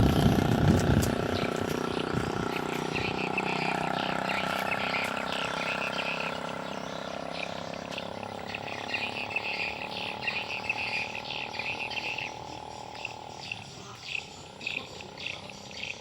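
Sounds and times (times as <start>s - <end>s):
steady motor hum: 0.0s - 16.0s
frogs croaking: 1.2s - 16.0s.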